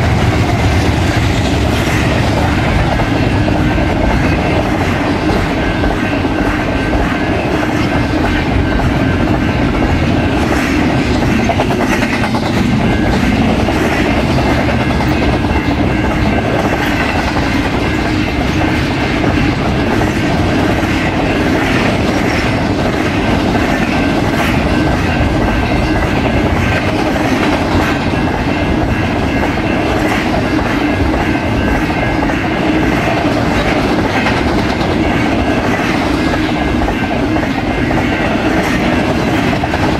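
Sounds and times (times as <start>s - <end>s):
train wheels rushing on rails: 0.0s - 39.9s.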